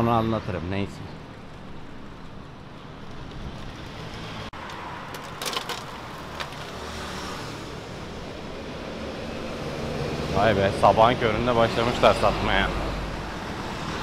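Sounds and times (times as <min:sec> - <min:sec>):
passing cars and trucks: 0:00.0 - 0:14.0.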